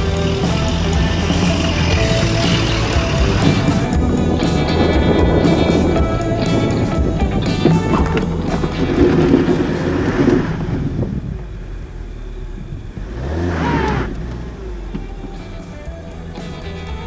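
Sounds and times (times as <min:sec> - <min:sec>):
car driving on sand: 0:00.0 - 0:17.0.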